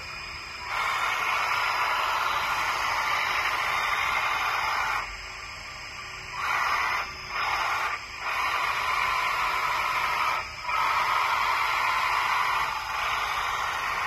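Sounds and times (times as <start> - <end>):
hydraulic pump whirring: 0.0 - 14.0.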